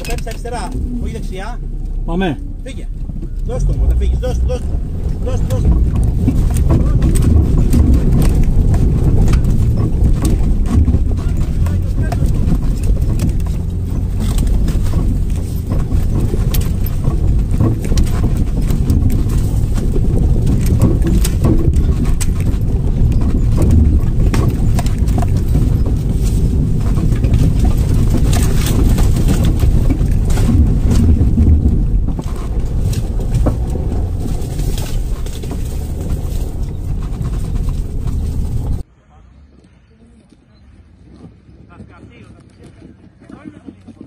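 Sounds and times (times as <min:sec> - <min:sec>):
bodywork knocks and rattles: 0:00.0 - 0:38.9
engine and tyres rumbling: 0:00.0 - 0:44.0.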